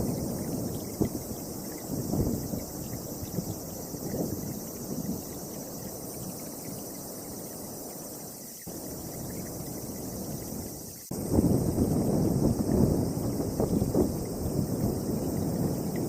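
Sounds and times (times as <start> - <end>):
storm wind gusting on microphone: 0.0 - 16.0.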